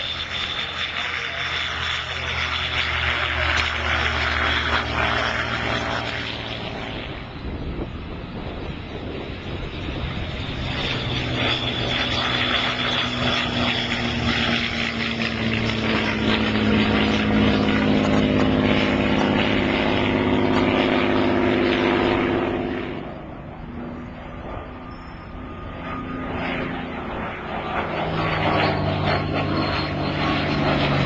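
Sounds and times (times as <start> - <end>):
propeller plane engine flying past: 0.0 - 31.0.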